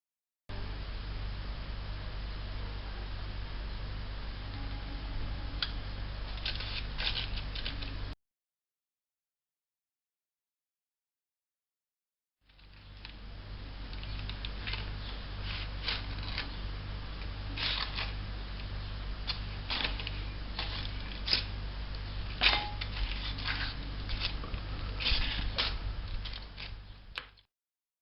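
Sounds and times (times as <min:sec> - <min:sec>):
low steady hum: 0:00.5 - 0:08.2, 0:12.4 - 0:27.4.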